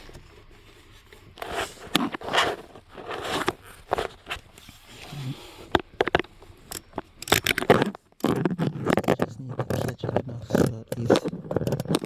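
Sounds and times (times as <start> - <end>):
hand tool clicking and scraping: 1.4 - 12.0.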